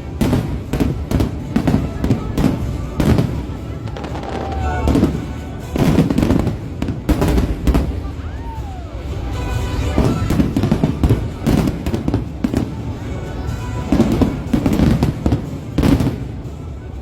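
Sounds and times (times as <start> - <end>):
fireworks booms and crackles: 0.0 - 17.0
music playing: 0.0 - 17.0.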